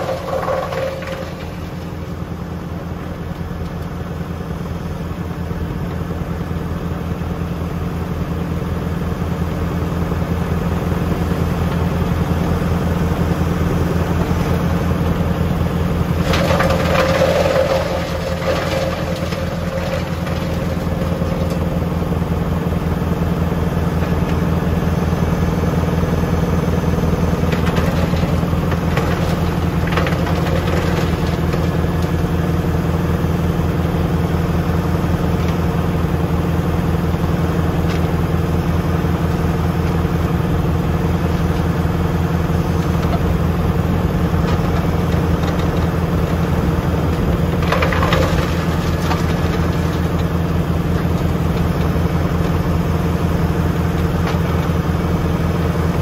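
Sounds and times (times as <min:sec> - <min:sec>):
wood chipper crackling bursts: 0:00.0 - 0:03.4, 0:10.2 - 0:56.0
tractor diesel engine running: 0:00.0 - 0:56.0.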